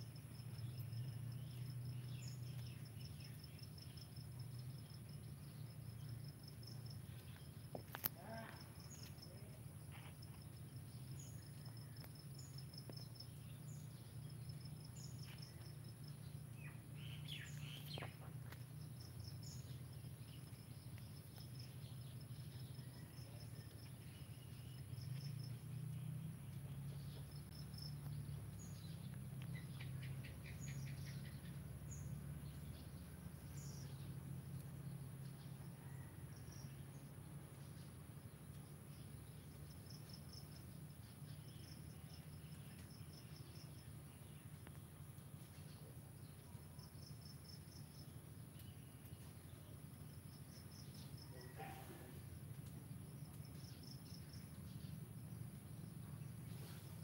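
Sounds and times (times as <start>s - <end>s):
insects trilling: 0.0s - 57.0s
low steady hum: 0.0s - 57.0s
birds chirping: 0.6s - 57.0s.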